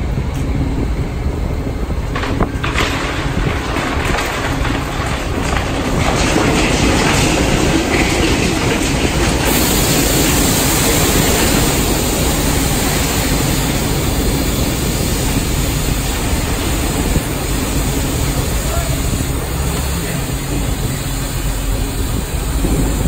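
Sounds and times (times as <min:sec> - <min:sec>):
concrete rubble pouring into hopper: 0:02.2 - 0:23.0.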